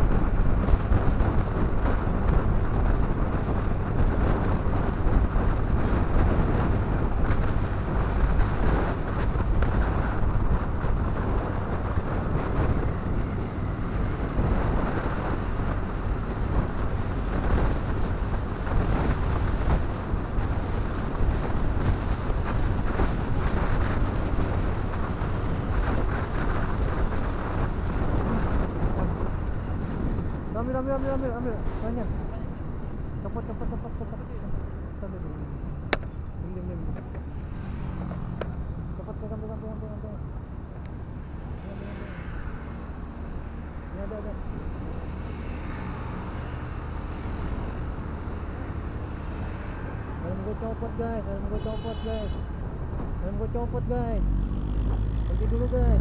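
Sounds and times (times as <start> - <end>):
surrounding traffic: 0.0 - 56.0
wind rushing over microphone: 0.0 - 56.0.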